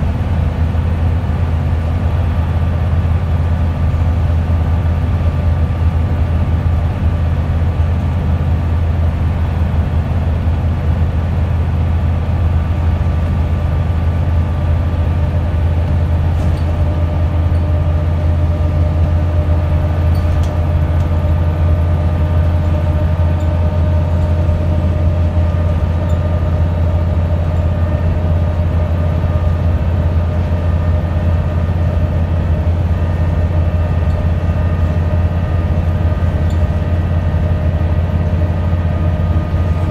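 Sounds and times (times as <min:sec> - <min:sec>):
bus diesel engine drone: 0:00.0 - 0:39.9
faint drivetrain whine: 0:00.0 - 0:39.9.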